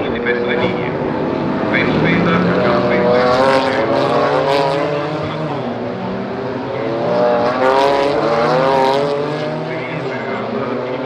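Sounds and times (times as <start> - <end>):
car accelerating: 0.0 - 11.0
race car engines running: 0.0 - 11.0.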